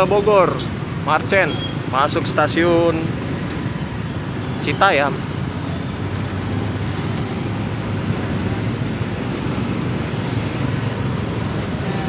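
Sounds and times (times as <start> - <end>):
engines idling and pulling away: 0.0 - 12.0
road noise: 0.0 - 12.0.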